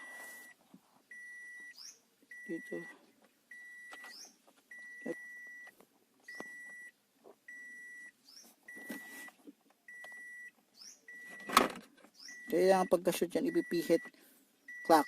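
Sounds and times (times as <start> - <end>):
car warning chime beeping: 0.0 - 11.6, 12.2 - 15.0.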